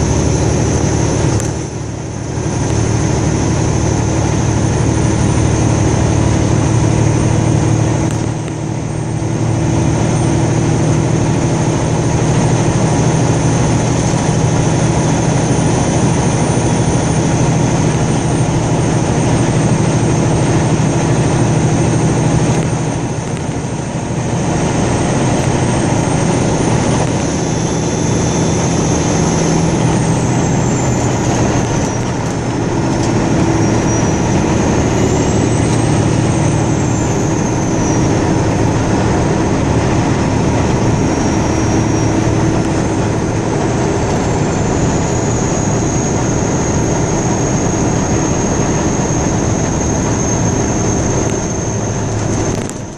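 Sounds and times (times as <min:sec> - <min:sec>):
road and engine noise in car: 0:00.0 - 0:52.9.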